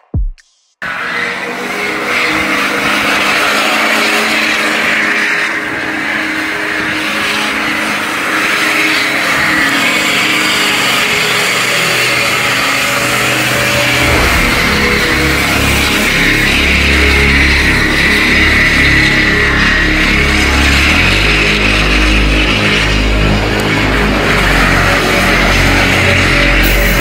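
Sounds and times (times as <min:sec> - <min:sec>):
engine at high revs: 0:00.8 - 0:27.0
tires squealing on asphalt: 0:00.8 - 0:27.0.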